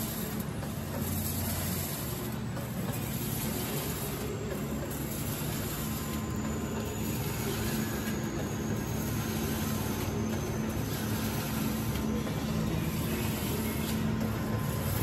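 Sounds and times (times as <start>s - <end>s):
packaging machine humming: 0.0s - 15.0s.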